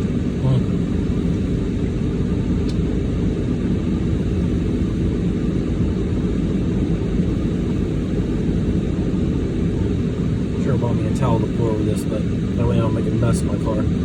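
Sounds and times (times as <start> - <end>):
car cabin engine rumble: 0.0 - 14.0.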